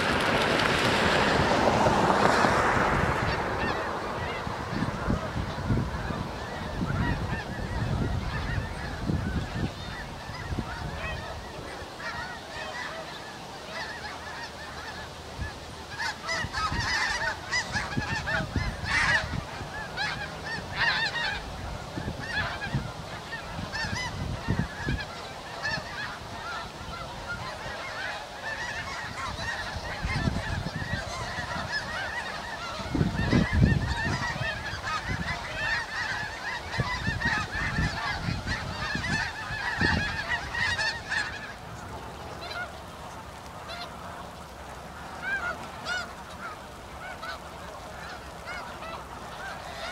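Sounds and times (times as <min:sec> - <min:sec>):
geese honking: 0:00.0 - 0:49.9.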